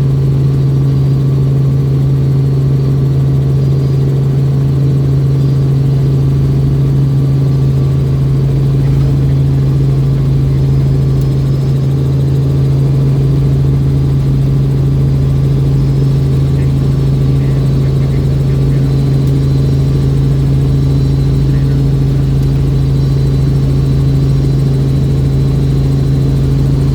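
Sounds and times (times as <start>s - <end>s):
helicopter running: 0.0s - 26.9s.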